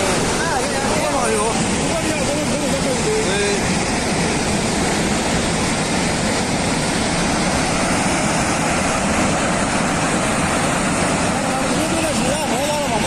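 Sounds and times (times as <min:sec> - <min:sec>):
rushing floodwater roar: 0:00.0 - 0:13.0.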